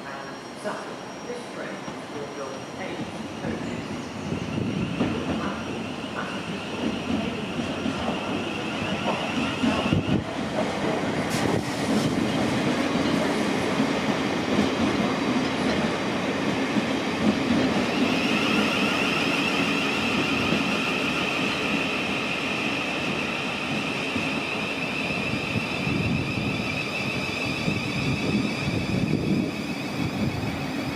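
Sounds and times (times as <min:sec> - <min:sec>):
high-pitched train whine: 0:00.0 - 0:12.2, 0:15.2 - 0:30.9
train wheels rumbling on rail: 0:00.1 - 0:30.9.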